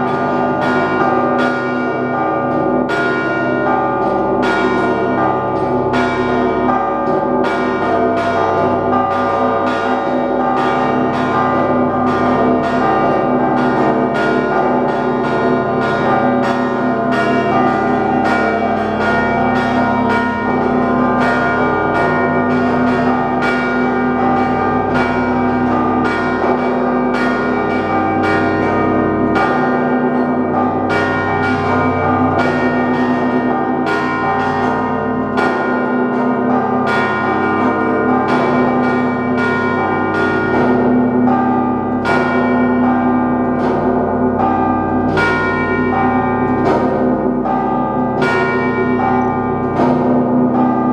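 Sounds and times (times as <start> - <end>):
hum of large bells: 0.0 - 50.9.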